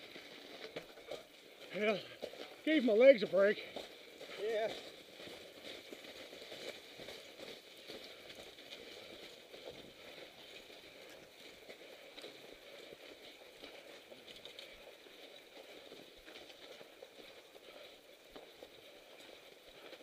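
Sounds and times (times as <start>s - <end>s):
footsteps crunching in snow: 0.0s - 20.0s.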